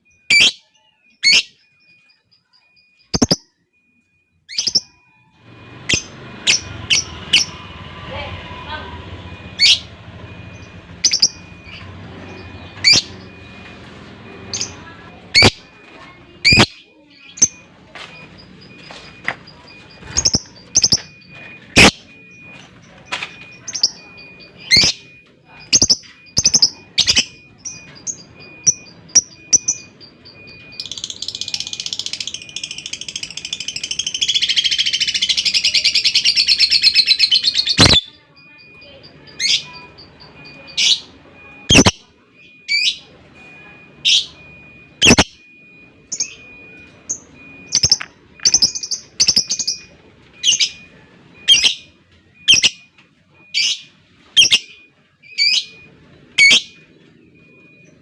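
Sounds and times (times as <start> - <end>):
lovebird chirping: 0.0 - 3.8, 5.8 - 7.6, 10.5 - 13.8, 14.4 - 22.6, 23.4 - 43.1, 45.0 - 45.3, 46.1 - 52.8, 53.5 - 58.0.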